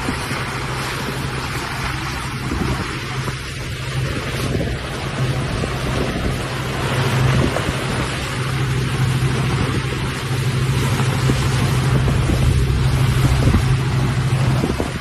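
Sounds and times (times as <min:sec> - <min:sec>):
low drone: 0:00.0 - 0:15.0
wind buffeting microphone: 0:00.0 - 0:15.0.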